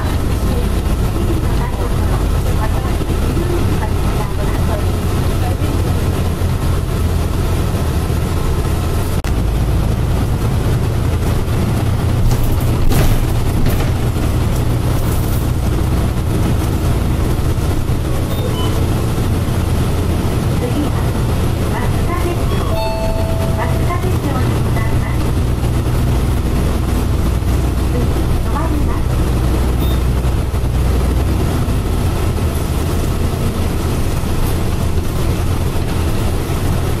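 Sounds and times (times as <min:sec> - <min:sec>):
tram passing: 0:00.0 - 0:37.0
tram rumbling on rails: 0:00.0 - 0:37.0.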